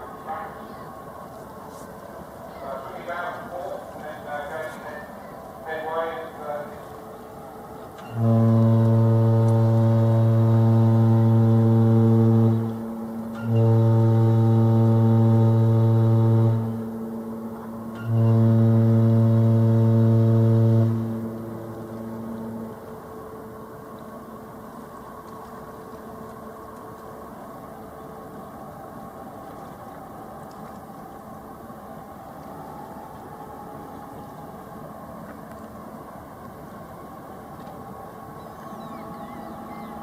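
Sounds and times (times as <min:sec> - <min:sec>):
ship horn blasts: 0:02.6 - 0:40.0.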